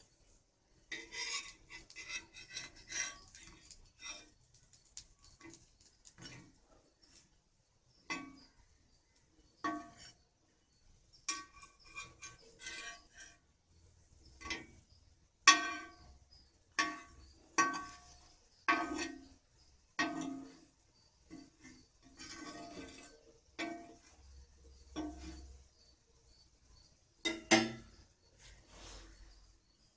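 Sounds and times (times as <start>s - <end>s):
spatula clinking on metal griddle: 0.0s - 26.0s, 27.2s - 28.1s.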